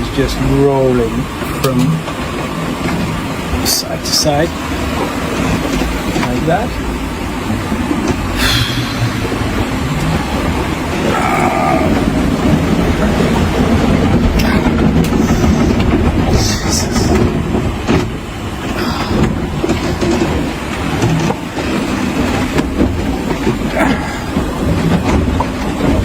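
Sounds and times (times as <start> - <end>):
gear knocking and rattling: 0.0 - 26.0
water rushing along hull: 0.0 - 26.0.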